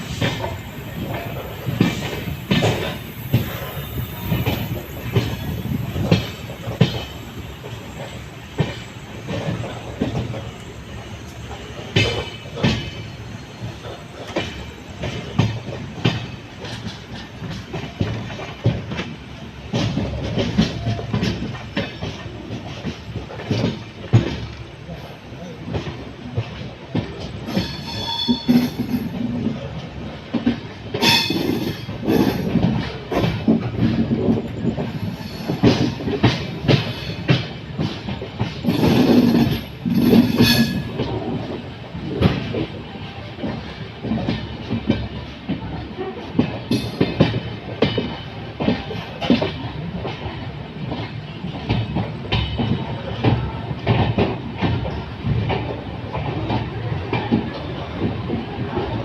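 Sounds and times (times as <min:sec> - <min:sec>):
wheels clattering over rail joints: 0:00.0 - 0:24.7, 0:25.4 - 0:59.0
train rumbling on tracks: 0:00.0 - 0:59.0.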